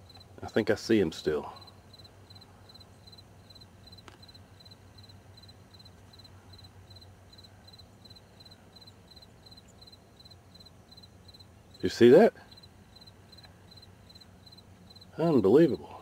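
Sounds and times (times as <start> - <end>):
cricket chirping: 0.0 - 15.4.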